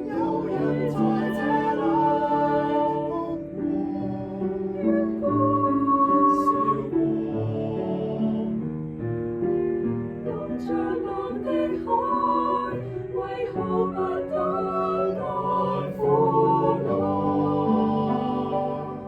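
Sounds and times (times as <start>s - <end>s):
mixed choir singing: 0.0s - 8.8s, 10.2s - 19.0s
piano accompaniment: 0.0s - 19.0s.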